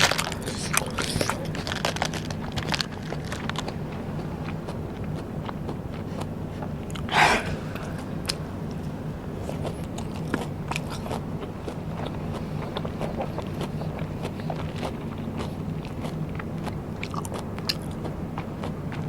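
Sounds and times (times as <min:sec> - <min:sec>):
crackly chewing: 0:00.0 - 0:19.0
crunchy bite: 0:00.0 - 0:19.0.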